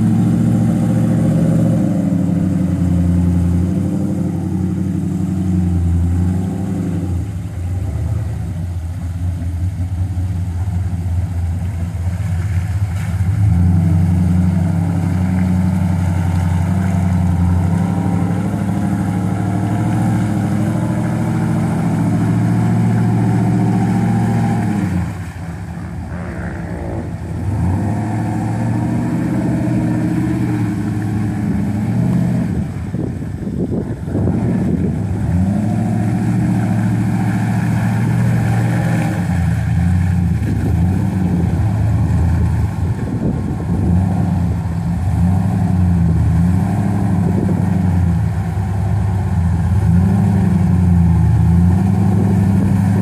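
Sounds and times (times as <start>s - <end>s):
buggy engine under load: 0.0s - 53.0s.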